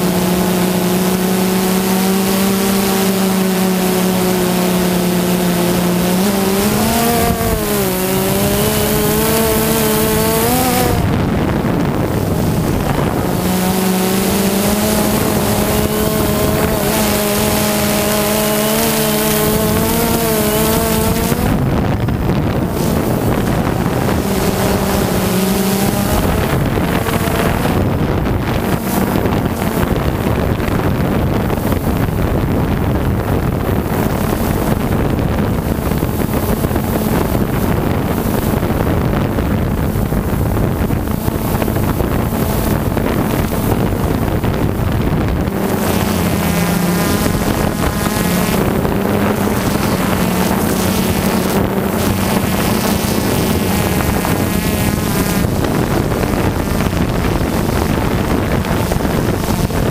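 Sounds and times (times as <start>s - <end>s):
drone propellers humming: 0.0s - 59.9s
wind rushing over microphone: 0.0s - 59.9s.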